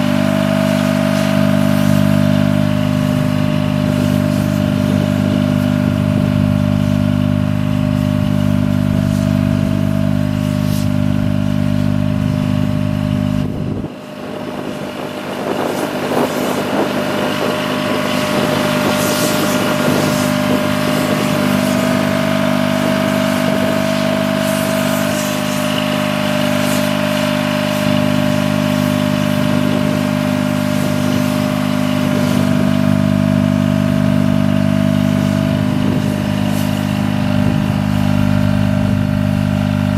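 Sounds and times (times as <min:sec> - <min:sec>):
machine engine running: 0:00.0 - 0:39.9
steady whine: 0:00.0 - 0:39.9.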